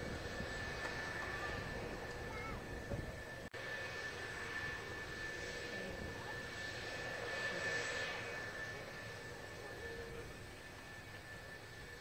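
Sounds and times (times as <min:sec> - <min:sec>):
jet engines whining and rumbling: 0:00.0 - 0:12.0.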